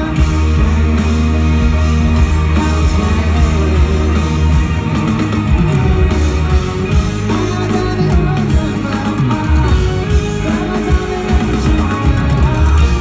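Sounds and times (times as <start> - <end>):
electric guitar: 0.0 - 13.0
rock band playing live: 0.0 - 13.0.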